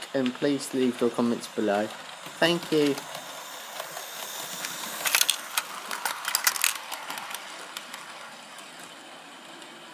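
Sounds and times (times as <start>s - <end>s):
model train running whir: 0.0s - 9.9s
wheels clicking over rail joints: 0.0s - 9.9s.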